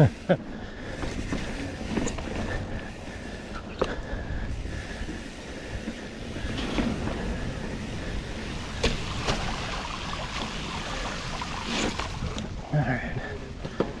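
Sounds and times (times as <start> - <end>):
bike clacking and rattling: 0.0 - 12.6
bike rolling over concrete: 0.0 - 14.0.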